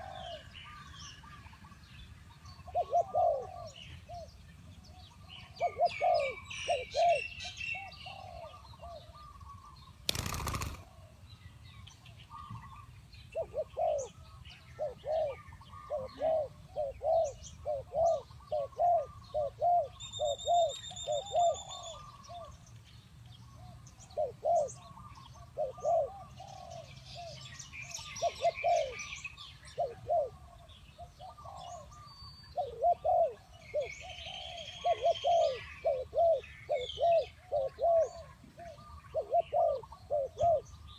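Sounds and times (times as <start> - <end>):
doves cooing: 0.0 - 1.8, 2.6 - 4.3, 5.2 - 11.2, 12.3 - 22.6, 23.5 - 40.9
small birds chirping: 0.0 - 40.9.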